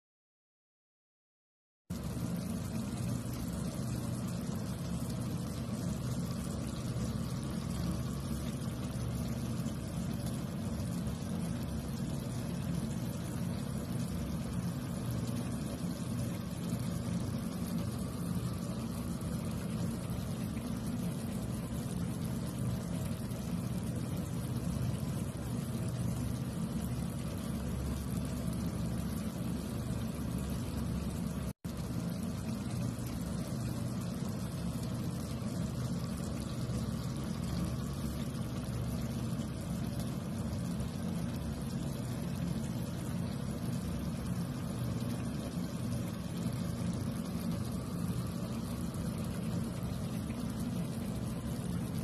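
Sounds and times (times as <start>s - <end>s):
pan simmering on stovetop: 1.9s - 52.0s.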